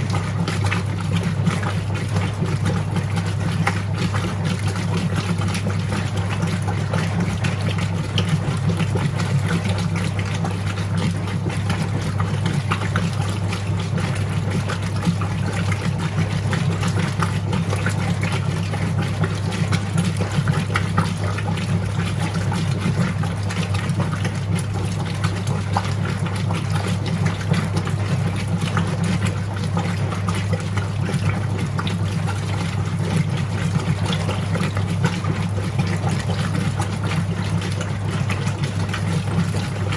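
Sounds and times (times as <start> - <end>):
washing machine motor hum: 0.0 - 39.9
water sloshing in tub: 0.0 - 39.9.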